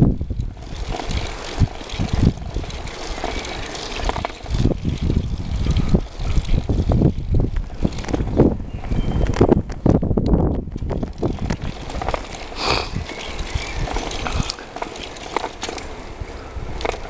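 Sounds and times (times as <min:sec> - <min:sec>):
bike knocks and rattles: 0:00.0 - 0:17.0
wind buffeting microphone: 0:00.0 - 0:17.0.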